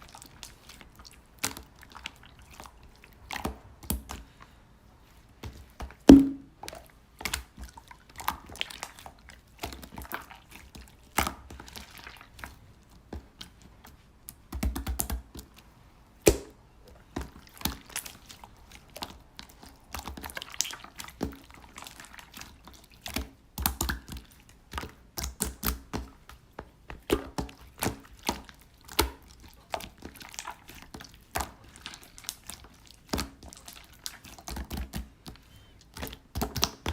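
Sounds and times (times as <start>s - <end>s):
slime squishing with wet clicks: 0.0s - 36.9s.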